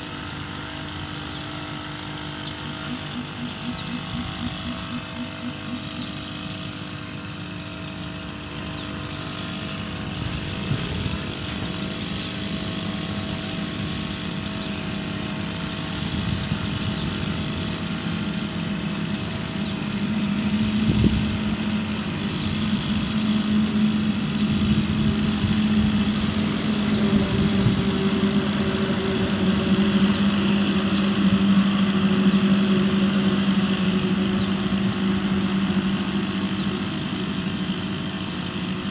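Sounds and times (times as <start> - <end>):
crop sprayer engine droning: 0.0 - 38.9.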